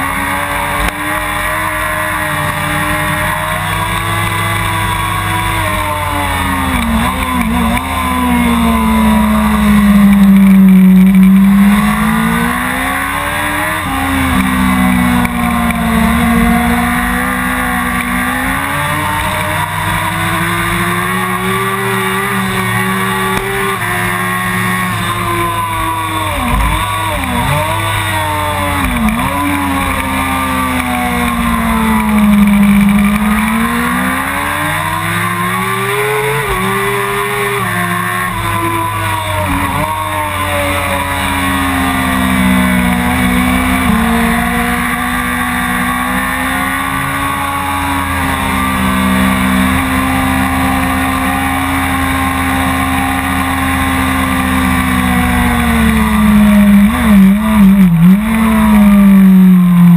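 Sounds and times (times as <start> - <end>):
motorcycle engine racing: 0.0 - 59.9.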